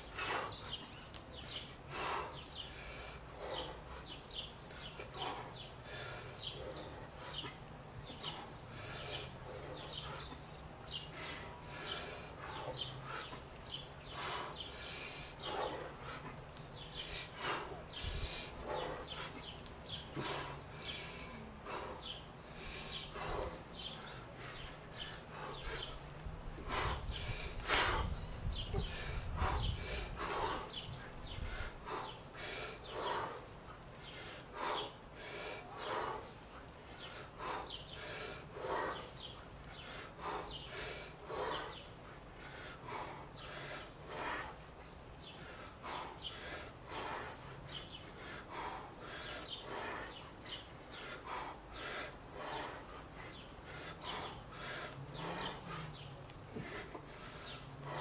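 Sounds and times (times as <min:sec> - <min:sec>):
birds chirping: 0:00.0 - 0:58.0
man breathing forcefully: 0:00.0 - 0:58.0.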